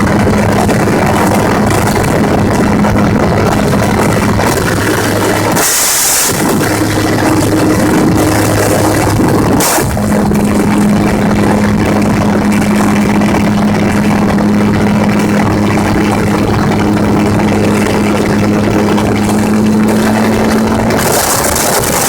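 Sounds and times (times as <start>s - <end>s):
gyrocopter engine droning: 0.0s - 22.0s.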